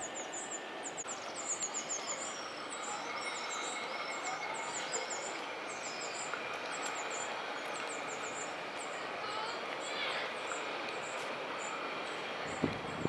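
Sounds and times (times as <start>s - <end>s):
city noise hum: 0.0s - 13.0s.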